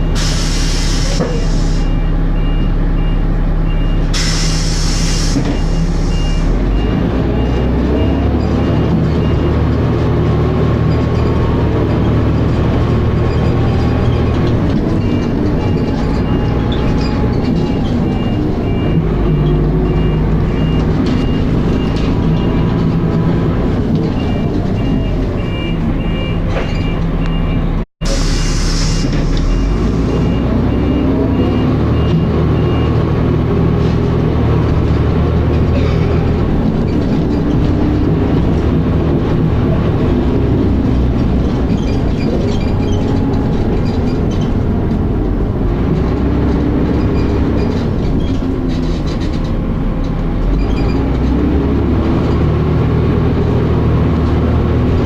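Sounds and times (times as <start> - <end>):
bus engine and driveline: 0.0 - 55.0.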